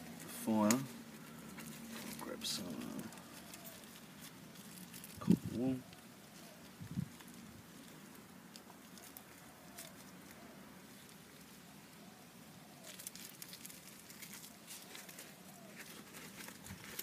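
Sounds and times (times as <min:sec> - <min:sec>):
soft rustling: 0:00.0 - 0:17.0.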